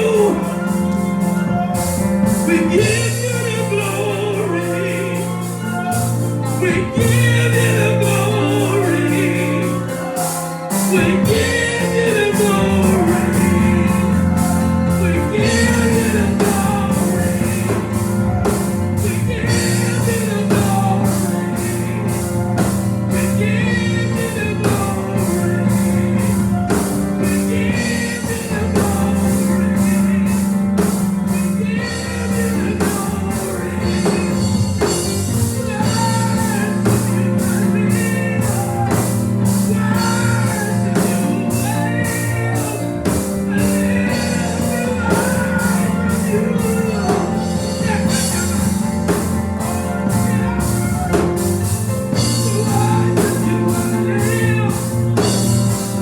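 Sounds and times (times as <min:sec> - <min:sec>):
gospel singing: 0:00.0 - 0:56.0
low organ chords: 0:00.0 - 0:56.0.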